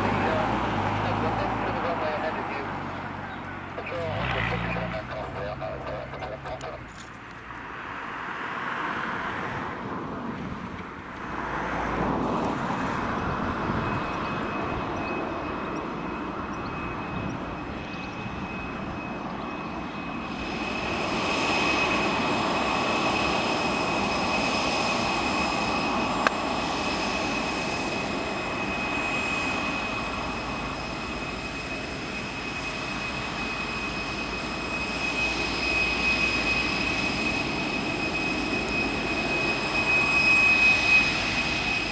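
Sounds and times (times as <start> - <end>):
jet engines rumbling with fan whine: 0.0 - 41.9.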